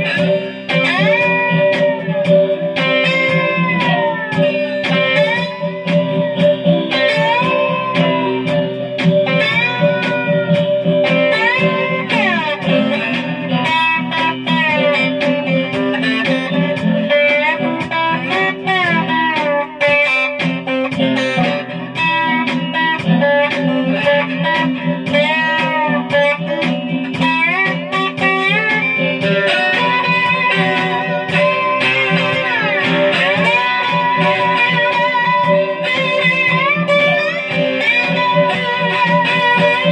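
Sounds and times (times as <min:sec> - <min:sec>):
slide guitar: 0:00.0 - 0:39.9.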